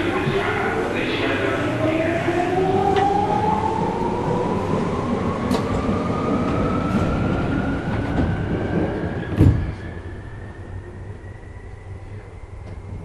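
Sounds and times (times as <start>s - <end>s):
electric train inverter whine: 0.0s - 13.0s
wheels rumbling on rails: 0.0s - 13.0s.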